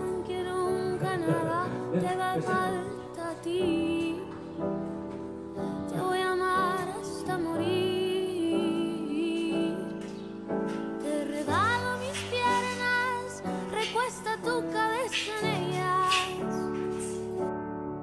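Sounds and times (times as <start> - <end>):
slow tender song with singing: 0.0 - 18.0.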